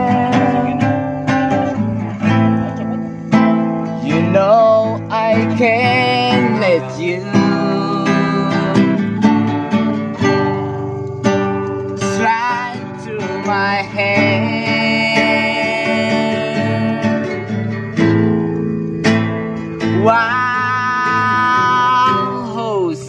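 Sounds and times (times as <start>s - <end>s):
person singing: 0.0s - 3.2s, 4.0s - 11.1s, 12.0s - 18.0s, 19.6s - 23.0s
acoustic guitar strumming: 0.0s - 23.0s.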